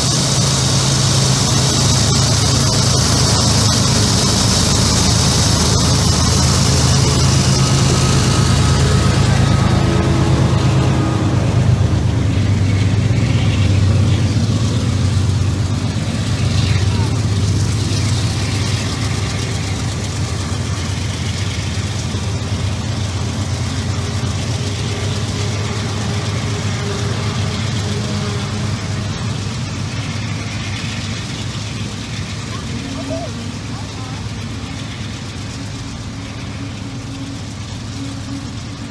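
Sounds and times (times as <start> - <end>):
diesel locomotive engine rumble: 0.0 - 38.9.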